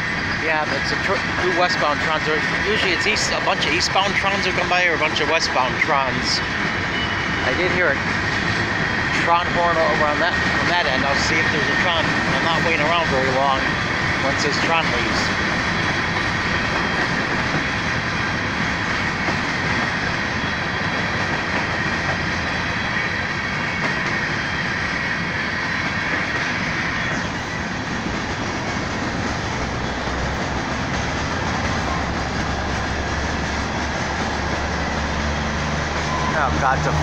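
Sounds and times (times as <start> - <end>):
freight train wheels rumbling: 0.0 - 37.0
wheels clickety-clack over joints: 0.0 - 37.0.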